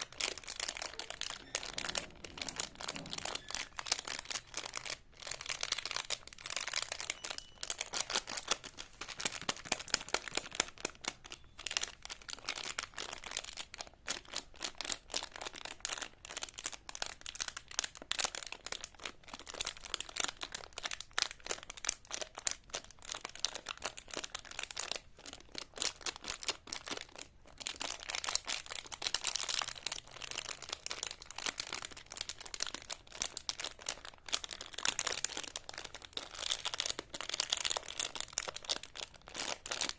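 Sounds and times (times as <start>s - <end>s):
plastic wrapper crinkling: 0.0s - 39.9s.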